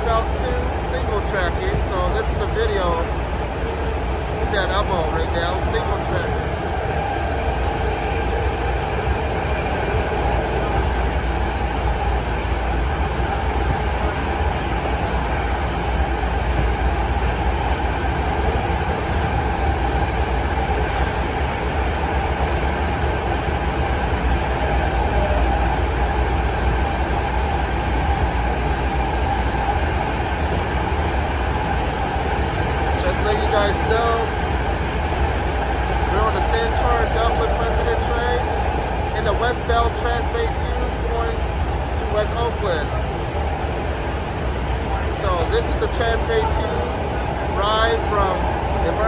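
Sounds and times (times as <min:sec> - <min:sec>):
constant hum: 0:00.0 - 0:49.0
train wheels rumbling on rails: 0:00.0 - 0:49.0.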